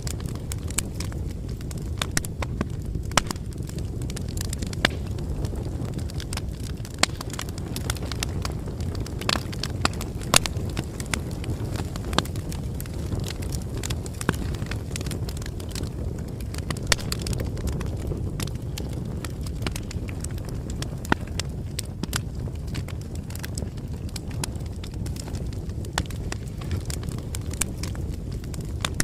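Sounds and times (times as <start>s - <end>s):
bonfire crackling: 0.0s - 29.0s
wood popping and snapping: 0.0s - 29.0s.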